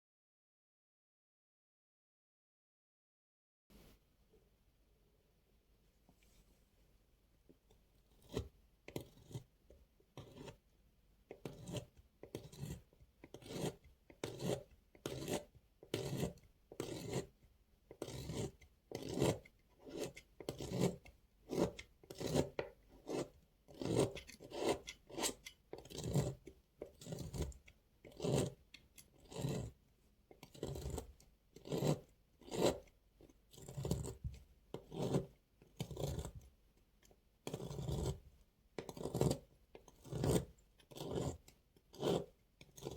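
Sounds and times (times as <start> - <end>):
knife cutting bar soap: 7.4 - 42.9.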